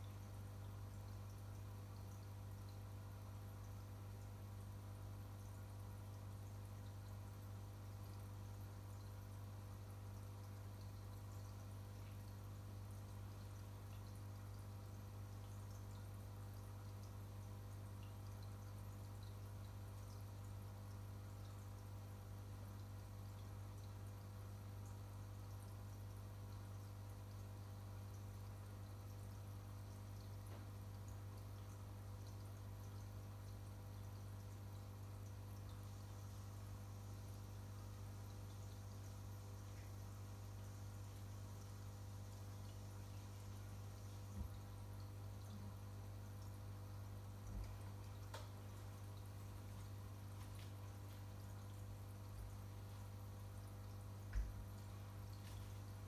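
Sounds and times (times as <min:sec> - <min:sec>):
aquarium equipment hum: 0:00.0 - 0:56.0
water dripping and trickling: 0:00.0 - 0:56.0.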